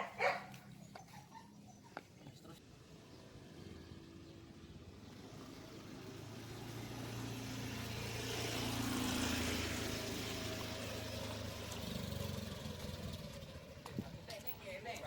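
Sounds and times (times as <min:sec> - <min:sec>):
motor vehicle passing by: 0:02.6 - 0:15.0.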